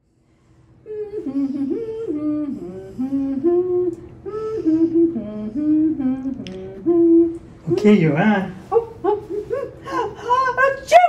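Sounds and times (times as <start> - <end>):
person humming a tune: 0.8 - 8.0, 8.6 - 10.6.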